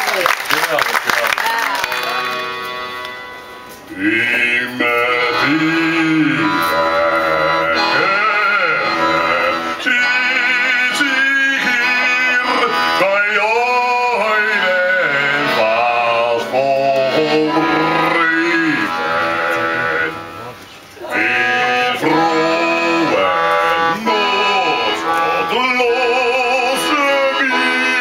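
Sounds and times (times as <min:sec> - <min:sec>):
backing music: 0:01.5 - 0:28.0
operatic solo singing: 0:03.9 - 0:20.4, 0:21.0 - 0:28.0.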